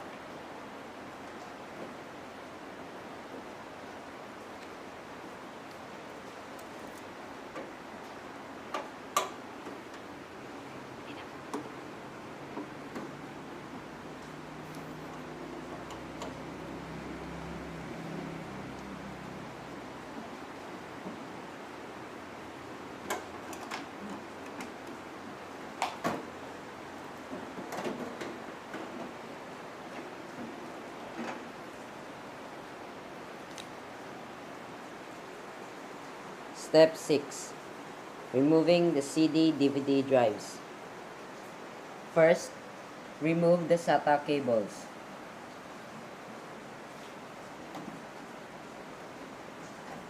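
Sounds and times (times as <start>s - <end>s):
steady hiss: 0.0s - 50.0s.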